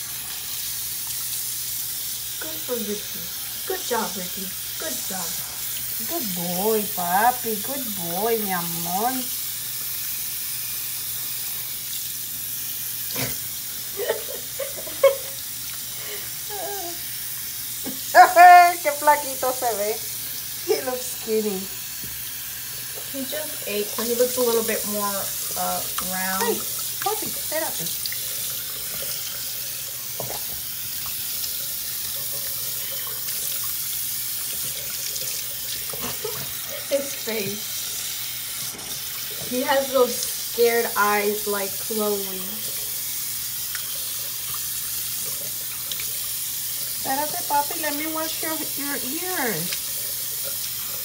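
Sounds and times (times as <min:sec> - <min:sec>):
faucet water splashing into sink: 0:00.0 - 0:51.0.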